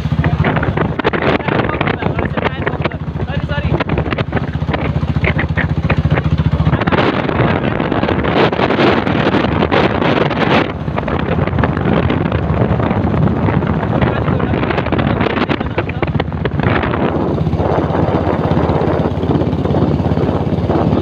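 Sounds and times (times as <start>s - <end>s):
motorcycle engine droning: 0.0s - 21.0s
wind buffeting microphone: 0.0s - 21.0s.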